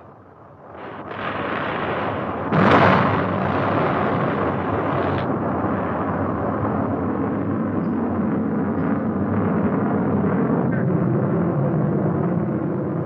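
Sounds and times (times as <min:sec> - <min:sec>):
rocket roar: 0:00.0 - 0:13.0
rocket explosion blast: 0:00.7 - 0:13.0.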